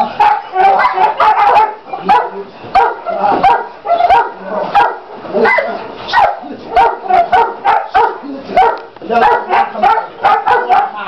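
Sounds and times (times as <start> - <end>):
young dogs barking: 0.0 - 11.0.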